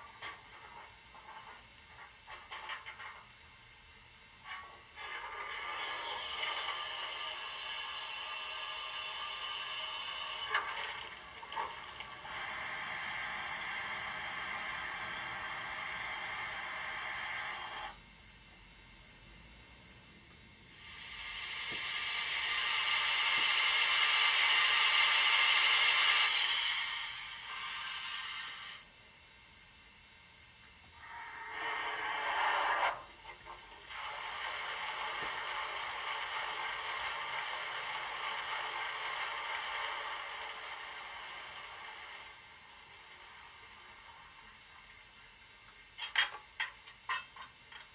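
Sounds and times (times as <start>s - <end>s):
steam blower hiss: 0.0s - 18.0s, 20.6s - 29.0s, 30.7s - 47.9s.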